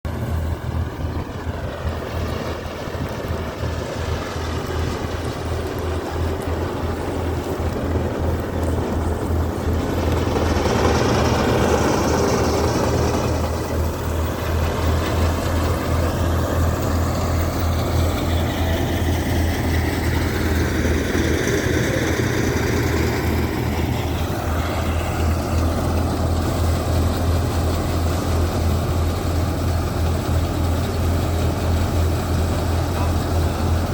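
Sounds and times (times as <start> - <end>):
harvester engine running: 0.0 - 33.9.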